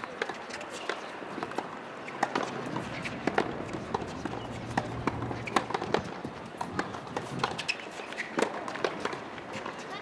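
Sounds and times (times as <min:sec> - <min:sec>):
balls bouncing on hard court: 0:00.0 - 0:10.0
tennis balls struck by rackets: 0:00.0 - 0:10.0.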